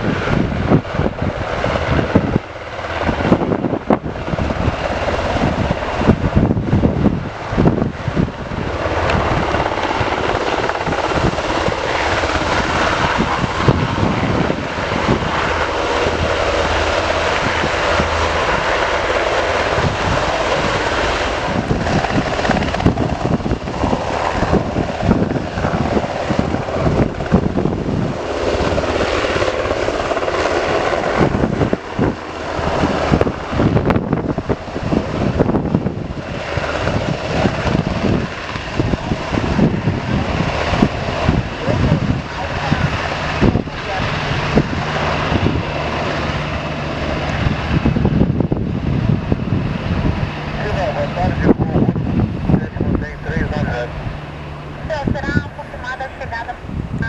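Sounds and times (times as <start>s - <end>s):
helicopter rotor and turbine: 0.0s - 57.0s.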